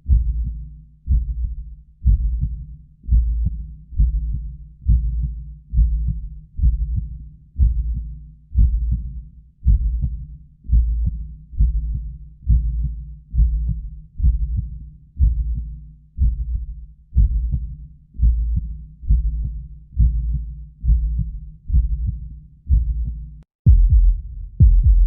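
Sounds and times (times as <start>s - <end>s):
human heartbeat: 0.0s - 25.0s.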